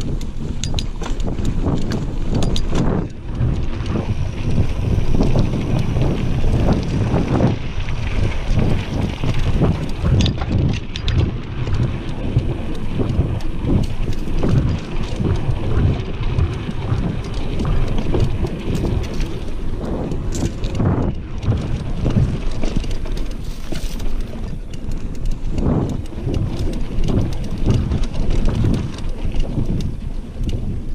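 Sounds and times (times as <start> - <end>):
bike clicks and rattles: 0.0 - 30.9
tyres running on dirt: 0.0 - 30.9
wind buffeting on microphone: 0.0 - 30.9.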